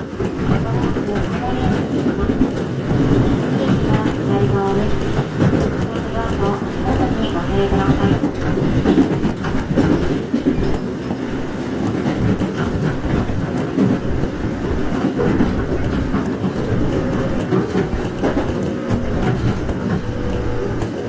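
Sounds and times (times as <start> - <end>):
clicks over rail joints: 0.0 - 21.0
train wheels rumbling on rails: 0.0 - 21.0.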